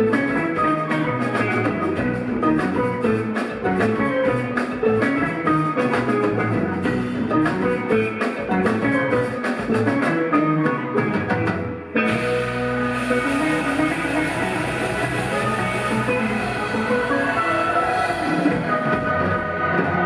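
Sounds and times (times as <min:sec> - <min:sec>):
bass: 0:00.0 - 0:20.0
drums: 0:00.0 - 0:20.0
electric guitar: 0:00.0 - 0:20.0
keyboards: 0:00.0 - 0:20.0.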